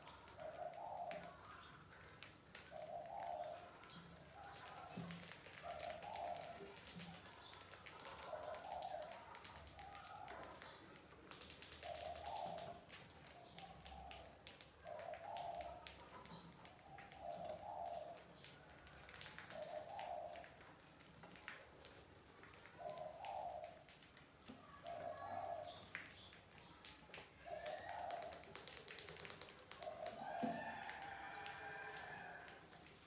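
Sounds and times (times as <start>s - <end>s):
dove cooing: 0.0s - 1.6s, 2.6s - 10.8s, 11.8s - 21.1s, 22.6s - 24.0s, 24.6s - 25.9s, 27.4s - 33.0s
rats scrabbling: 0.0s - 33.0s.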